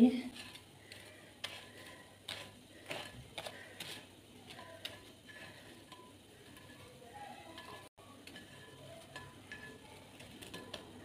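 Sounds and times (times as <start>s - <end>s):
faint frying hiss: 0.0s - 11.0s
fork clicking and scraping a pan: 0.2s - 11.0s.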